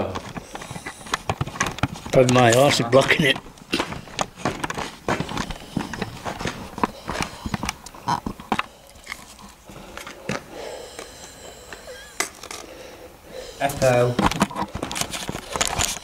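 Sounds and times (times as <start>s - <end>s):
crunching clicks and knocks: 0.0s - 11.1s, 13.8s - 16.0s.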